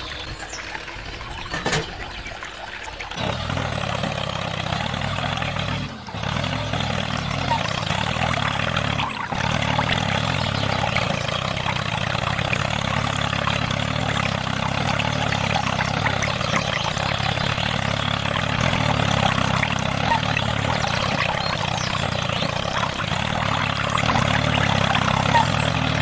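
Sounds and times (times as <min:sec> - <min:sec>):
small motor whirring: 0:03.1 - 0:26.0.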